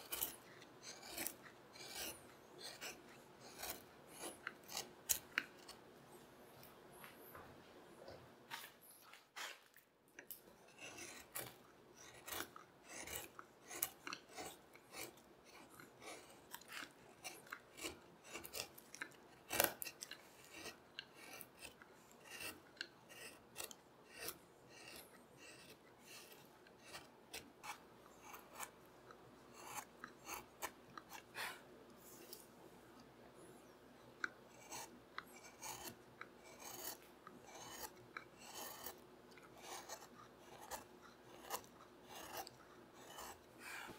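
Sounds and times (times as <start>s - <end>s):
knife scraping wood shavings: 0.0s - 5.8s, 10.6s - 28.8s, 29.5s - 32.4s, 34.5s - 43.9s.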